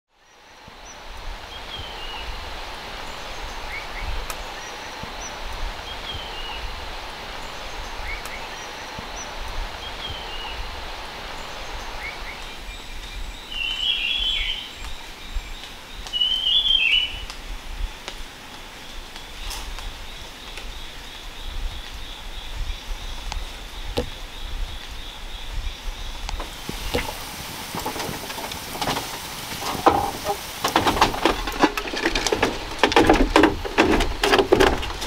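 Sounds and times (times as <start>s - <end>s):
steady hiss: 0.2s - 35.0s
birds calling: 0.3s - 35.0s.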